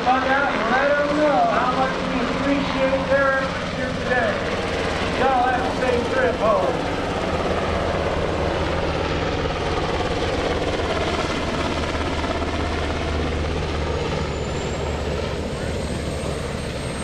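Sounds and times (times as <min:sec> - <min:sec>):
helicopter flying: 0:00.0 - 0:17.0.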